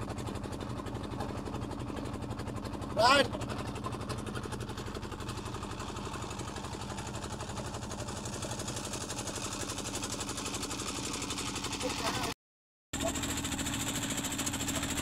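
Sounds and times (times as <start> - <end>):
boat engine running: 0.0 - 12.4, 13.0 - 15.0.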